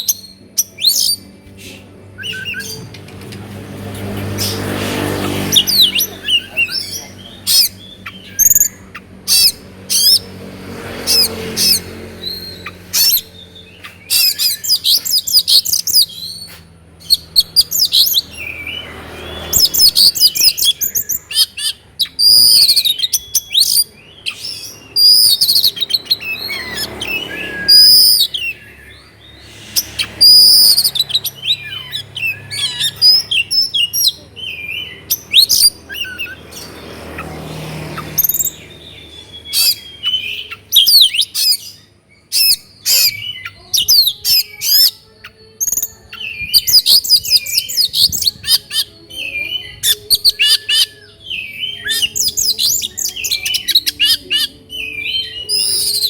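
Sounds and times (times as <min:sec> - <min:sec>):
bird singing whistles and trills: 0:00.0 - 0:02.9, 0:05.5 - 0:10.2, 0:11.1 - 0:37.3, 0:38.0 - 0:56.0.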